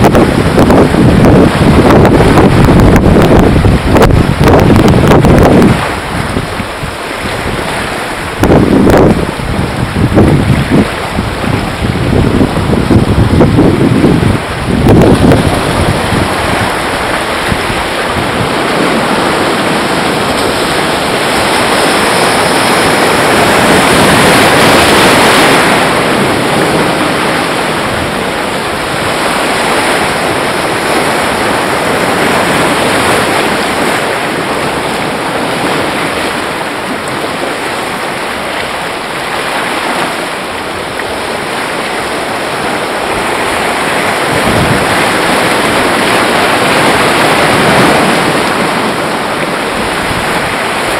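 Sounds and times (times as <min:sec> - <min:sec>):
surf washing over rocks: 0:00.0 - 0:50.9
wind buffeting microphone: 0:00.0 - 0:50.9.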